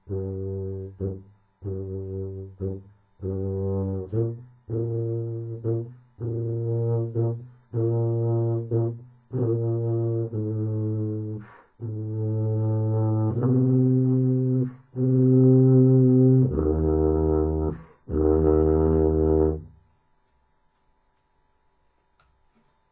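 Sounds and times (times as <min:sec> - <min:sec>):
low brass instrument solo: 0:00.0 - 0:19.8.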